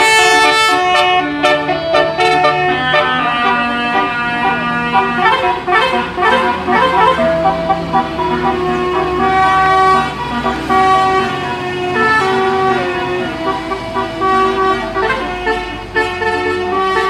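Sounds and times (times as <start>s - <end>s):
bus air horns playing tune: 0.0s - 17.0s.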